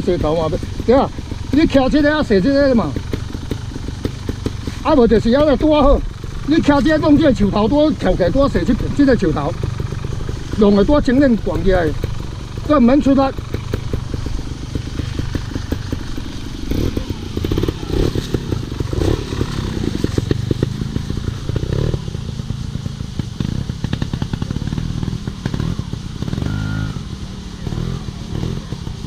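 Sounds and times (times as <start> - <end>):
motorcycle engine blipping: 0.0 - 29.0.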